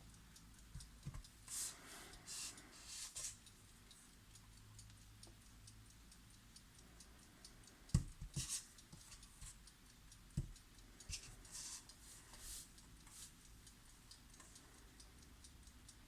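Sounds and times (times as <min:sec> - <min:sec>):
clock ticking quickly: 0:00.0 - 0:16.0.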